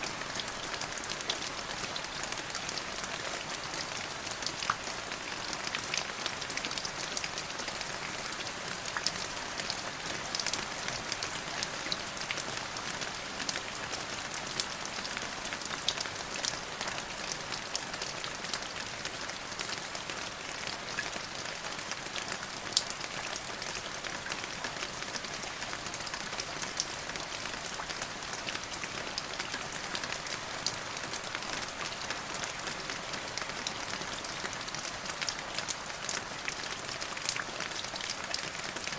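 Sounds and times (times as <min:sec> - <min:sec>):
rain falling: 0:00.0 - 0:38.9
raindrops pattering: 0:00.0 - 0:38.9.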